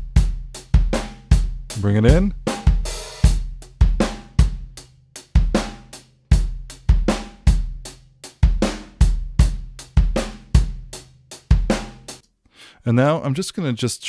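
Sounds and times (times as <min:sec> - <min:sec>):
drum kit playing groove: 0:00.0 - 0:12.2.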